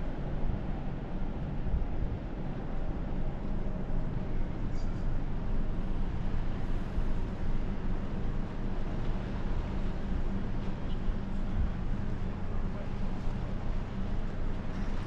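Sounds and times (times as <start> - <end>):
ship engine rumble and hiss: 0.0 - 15.0.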